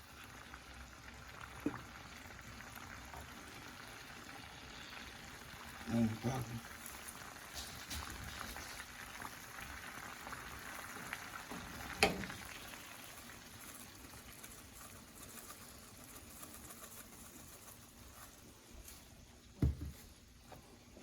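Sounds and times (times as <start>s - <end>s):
pot simmering and bubbling: 0.0s - 21.0s.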